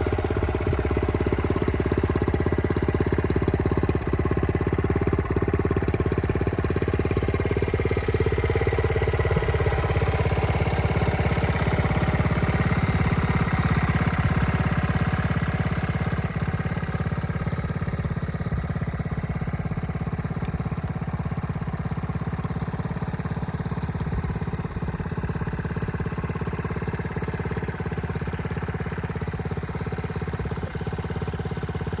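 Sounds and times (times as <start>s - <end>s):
small motorcycle engine idling: 0.0s - 32.0s.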